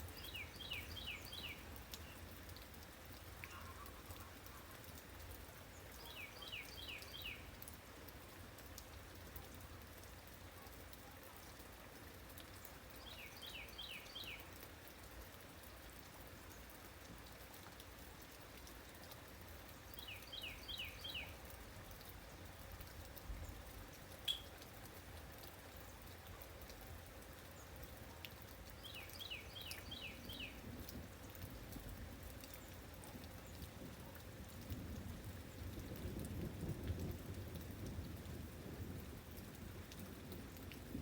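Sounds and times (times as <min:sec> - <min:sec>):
light rain: 0:00.0 - 0:41.0.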